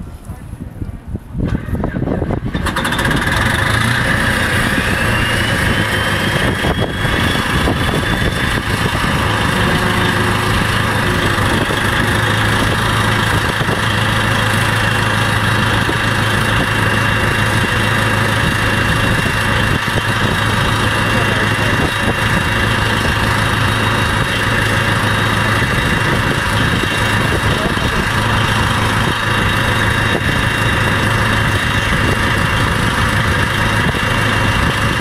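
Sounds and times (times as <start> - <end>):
engine idling: 1.6 - 35.0
rising whine: 3.8 - 35.0.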